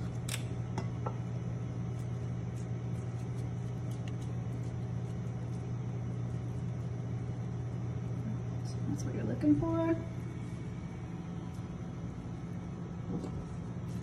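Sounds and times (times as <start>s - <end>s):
kitchen equipment humming: 0.0s - 14.0s.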